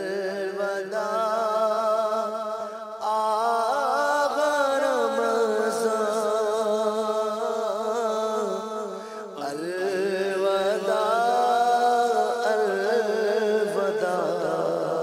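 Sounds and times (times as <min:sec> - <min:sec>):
person singing a devotional chant: 0:00.0 - 0:15.0.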